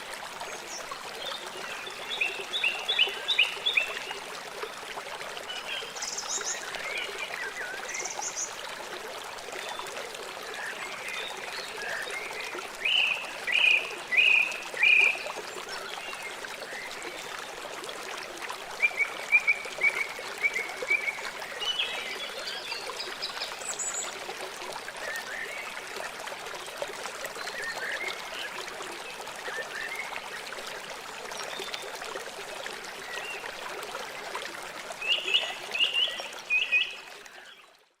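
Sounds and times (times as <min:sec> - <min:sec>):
river water flowing: 0:00.0 - 0:38.0.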